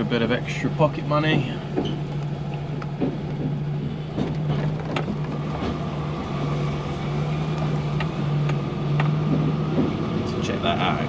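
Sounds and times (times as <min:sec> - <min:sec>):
lorry diesel engine hum: 0:00.0 - 0:11.0.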